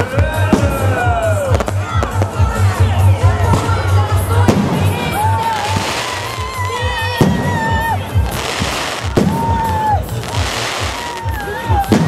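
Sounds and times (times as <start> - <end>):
fireworks bursting: 0.0 - 12.0
music with steady beat: 0.0 - 12.0.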